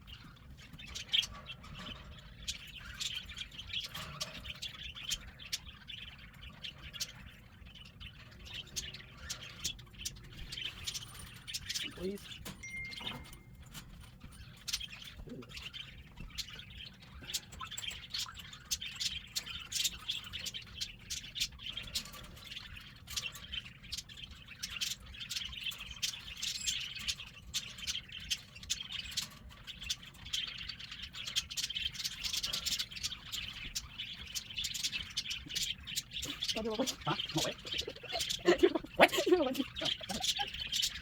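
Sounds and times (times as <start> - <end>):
cockatiels chirping: 0.0 - 41.0.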